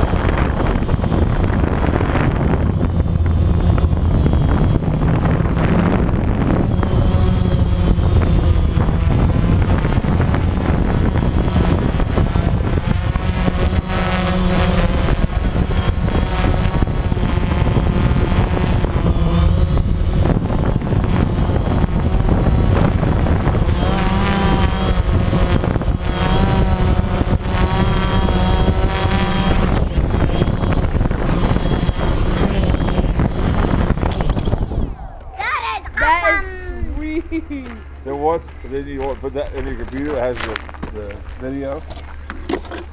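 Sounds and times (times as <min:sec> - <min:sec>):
drone motors whirring: 0:00.0 - 0:42.9.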